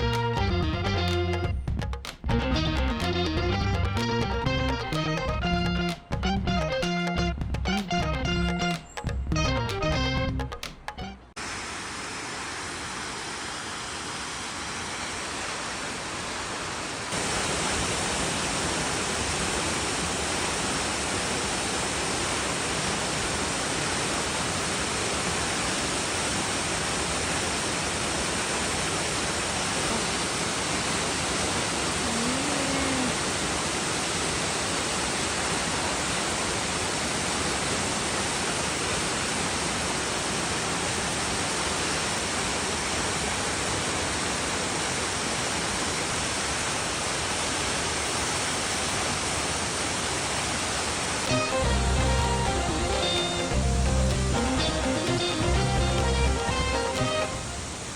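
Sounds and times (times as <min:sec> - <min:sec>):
waterfall rushing and splashing: 0:11.4 - 0:57.9.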